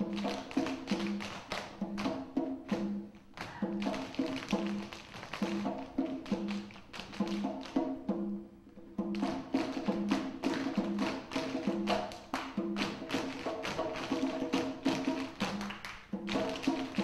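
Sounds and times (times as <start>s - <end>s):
tap shoes on stage floor: 0.0s - 7.9s, 9.1s - 17.0s
hand percussion: 0.0s - 17.0s.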